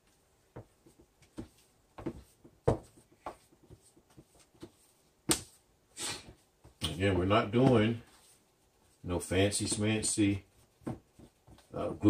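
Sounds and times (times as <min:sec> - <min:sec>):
spatula stirring flour: 0:00.0 - 0:11.9.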